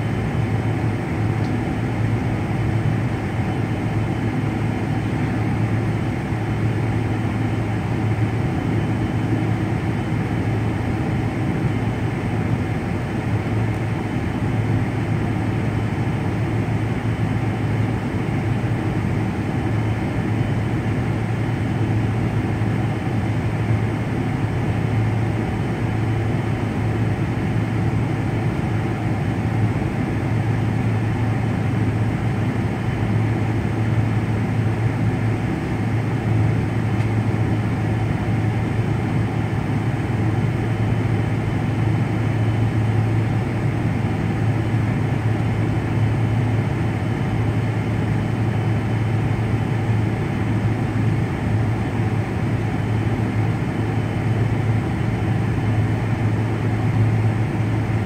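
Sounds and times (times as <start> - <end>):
jet airliner cabin drone: 0.0 - 58.0.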